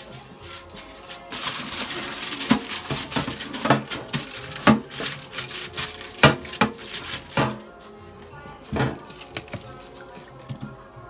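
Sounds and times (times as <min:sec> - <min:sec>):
dishes and utensils clattering: 0:00.0 - 0:07.8, 0:08.5 - 0:10.7.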